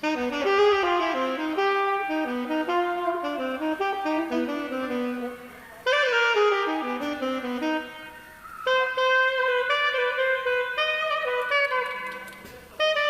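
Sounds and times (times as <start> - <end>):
saxophone playing short notes: 0.0 - 13.0.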